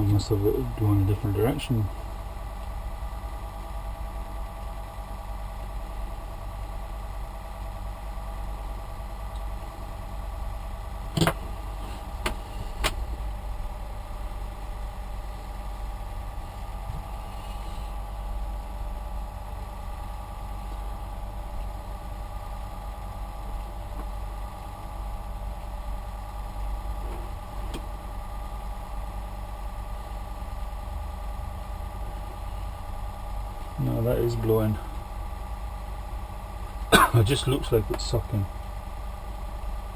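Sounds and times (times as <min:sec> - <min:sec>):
cooling fans whirring: 0:00.0 - 0:39.9.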